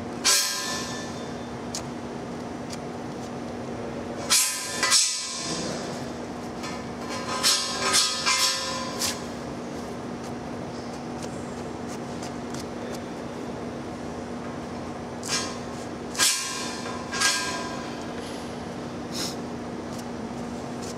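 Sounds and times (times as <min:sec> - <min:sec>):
steady hum: 0:00.0 - 0:20.9.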